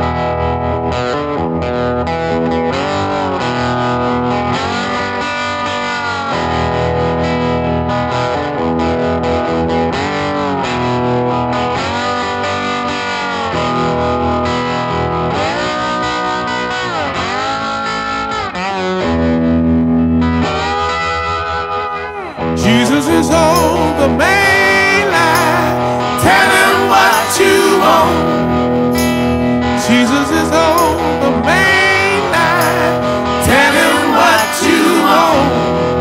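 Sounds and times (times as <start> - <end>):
electric guitar with bending notes: 0.0 - 36.0.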